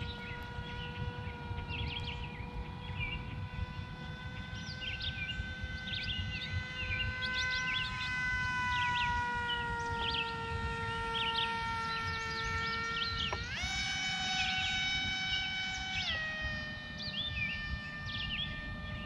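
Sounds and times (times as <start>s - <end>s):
electric propeller whine: 0.0s - 19.0s.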